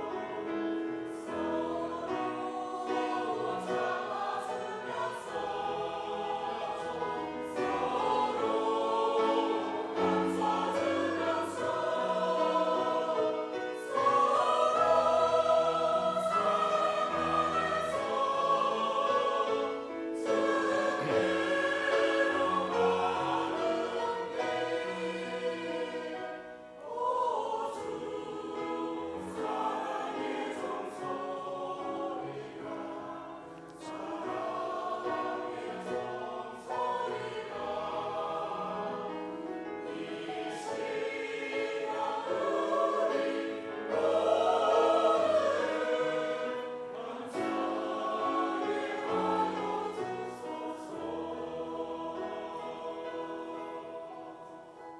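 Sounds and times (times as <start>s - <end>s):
choir singing a hymn: 0.0s - 54.9s.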